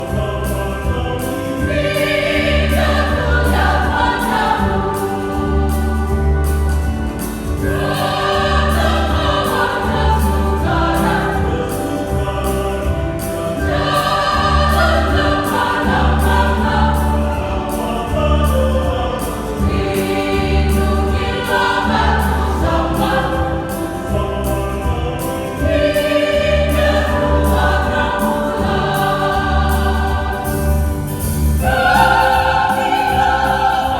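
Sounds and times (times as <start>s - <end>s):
choir singing: 0.0s - 33.9s.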